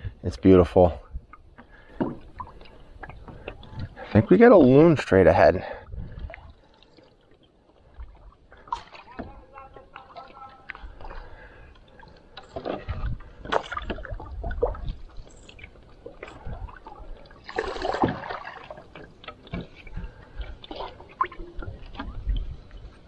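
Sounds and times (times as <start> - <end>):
paddle splashing in water: 1.4 - 23.0.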